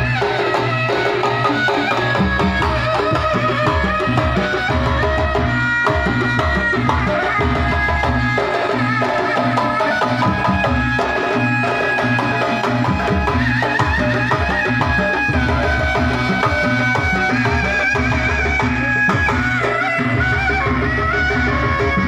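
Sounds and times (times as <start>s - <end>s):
hand drums: 0.0s - 22.0s
reedy high melody: 0.0s - 22.0s.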